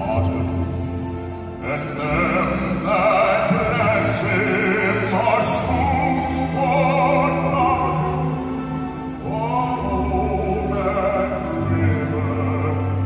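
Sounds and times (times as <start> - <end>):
man singing with vibrato: 0.0 - 13.0
orchestra string chords: 0.0 - 13.0.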